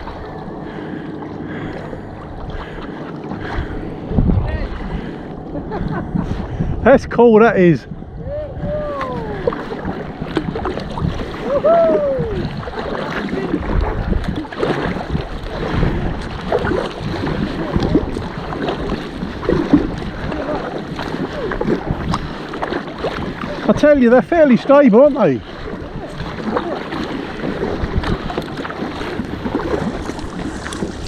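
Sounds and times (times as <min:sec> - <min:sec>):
paddle blades dipping: 0:00.0 - 0:31.0
water splashing against hull: 0:00.0 - 0:31.0
wind buffeting microphone: 0:00.0 - 0:31.0.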